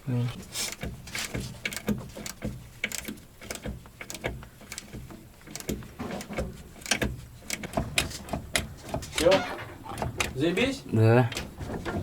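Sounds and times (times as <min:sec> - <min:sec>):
light clicks and knocks: 0:00.2 - 0:12.0.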